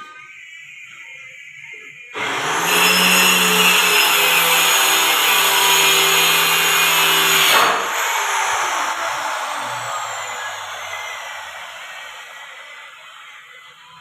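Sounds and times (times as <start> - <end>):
power tool motor running: 2.2 - 13.6
motor winding down whine: 2.2 - 14.0.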